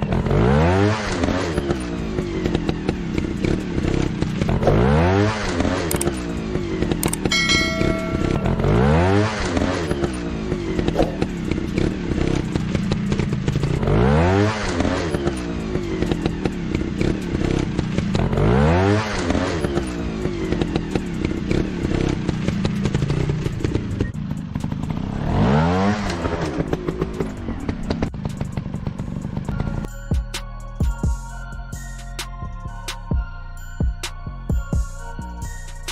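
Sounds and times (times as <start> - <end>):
dirt bike engine revving: 0.0 - 29.8.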